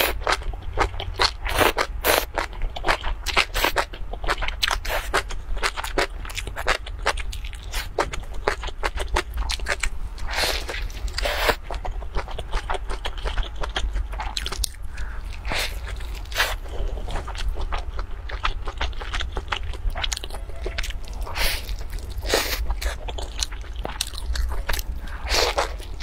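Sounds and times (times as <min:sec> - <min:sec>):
crunchy biting and chewing: 0:00.0 - 0:26.0.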